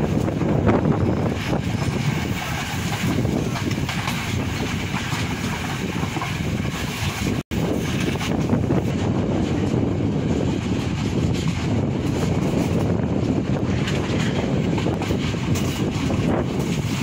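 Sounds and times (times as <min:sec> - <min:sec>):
rumble of moving train: 0:00.0 - 0:17.0
wind buffeting microphone: 0:00.0 - 0:17.0.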